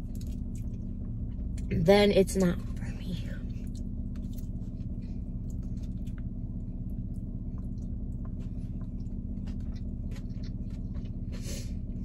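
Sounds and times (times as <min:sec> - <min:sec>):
close-up chewing of food: 0:00.0 - 0:01.7, 0:03.4 - 0:12.0
low hum inside a car: 0:00.0 - 0:12.0.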